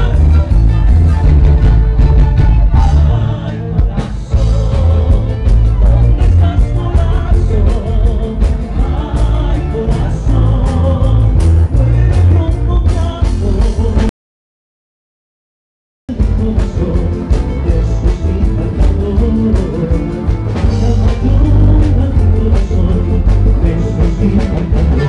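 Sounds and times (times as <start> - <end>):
live band playing rock music: 0.0 - 14.1, 16.1 - 25.0.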